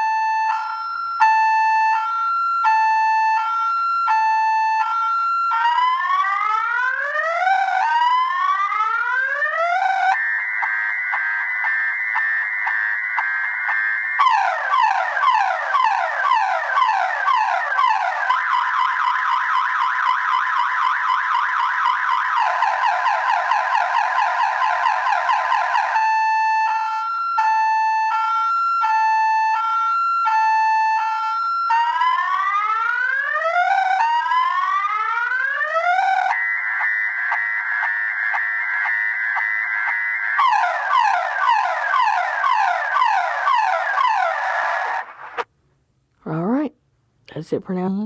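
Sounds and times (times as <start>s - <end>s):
car alarm siren: 0.0s - 45.5s.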